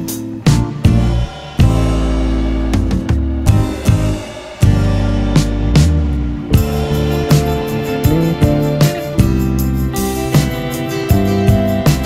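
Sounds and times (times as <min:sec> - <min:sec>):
steady beat: 0:00.0 - 0:12.0
sustained pitched notes: 0:00.8 - 0:11.9.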